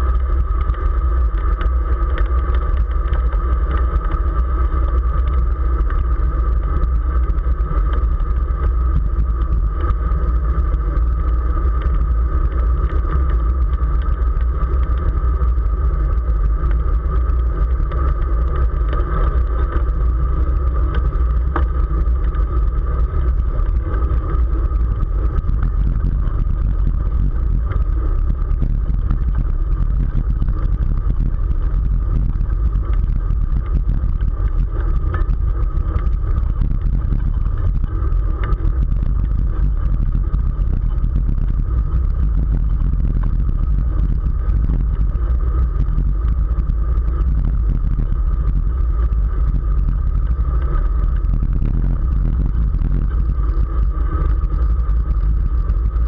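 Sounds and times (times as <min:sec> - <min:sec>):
constant higher hum: 0:00.0 - 0:56.0
wind buffeting microphone: 0:00.0 - 0:56.0.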